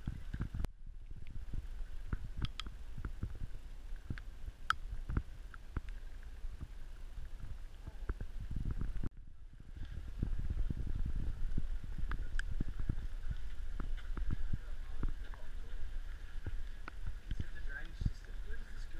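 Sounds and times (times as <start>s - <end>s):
wind on microphone: 0.0s - 18.9s.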